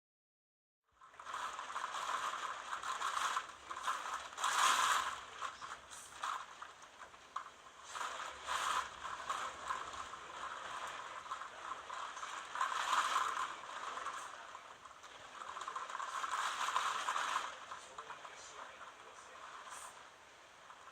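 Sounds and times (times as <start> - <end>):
rapid rattling: 1.0 - 20.9.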